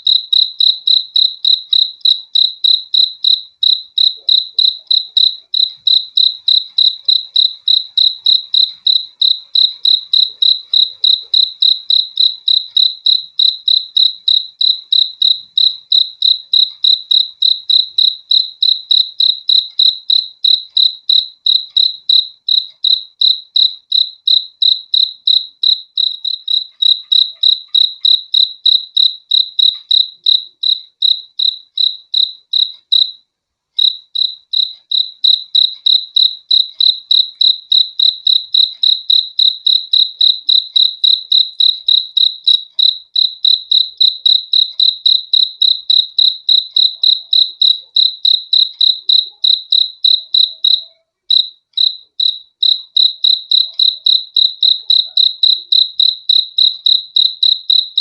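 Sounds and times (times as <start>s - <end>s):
cricket chirping: 0.0s - 33.2s, 33.8s - 58.0s.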